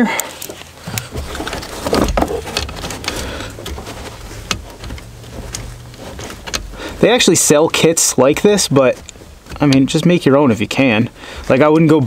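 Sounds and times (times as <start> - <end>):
light clicks and taps: 0.2 - 12.0.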